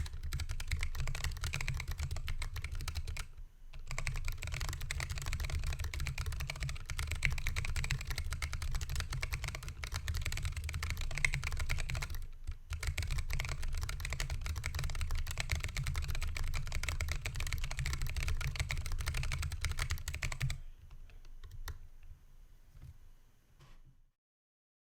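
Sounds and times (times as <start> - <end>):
fast mechanical keyboard typing: 0.0 - 20.6
faint keyboard clicks: 0.0 - 22.1.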